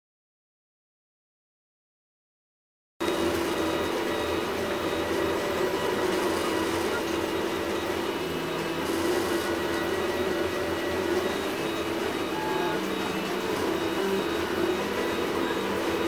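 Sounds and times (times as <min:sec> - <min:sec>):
printer stepper motors humming: 0:03.0 - 0:16.0.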